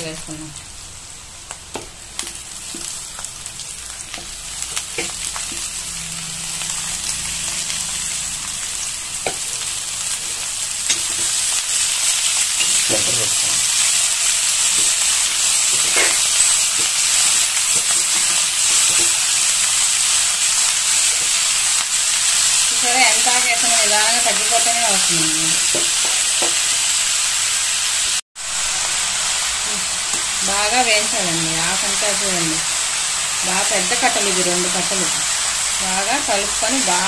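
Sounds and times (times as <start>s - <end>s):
leaves sizzling in oil: 0.0s - 37.0s.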